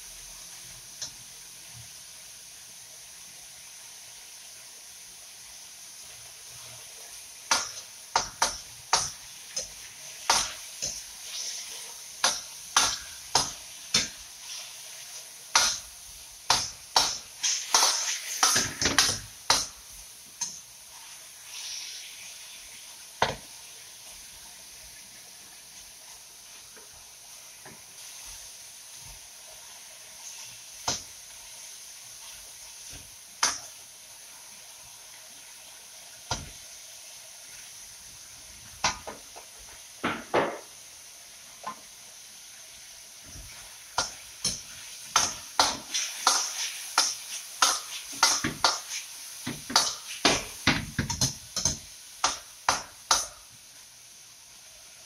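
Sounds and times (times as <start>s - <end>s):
steady sizzle: 0.0s - 55.0s.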